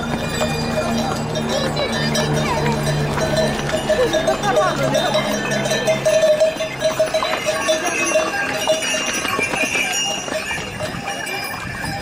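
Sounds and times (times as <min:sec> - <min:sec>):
hooves clopping on stony path: 0:00.0 - 0:12.0
pack pony bells jingling: 0:00.0 - 0:12.0.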